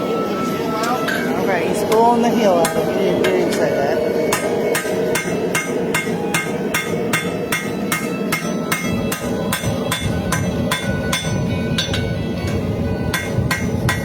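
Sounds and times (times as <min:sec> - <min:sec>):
hammer blows on hot steel: 0:01.9 - 0:14.0.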